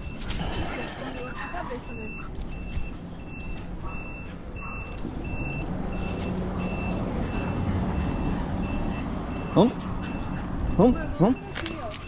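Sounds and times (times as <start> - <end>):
reversing alarm beeping: 0.0 - 12.0.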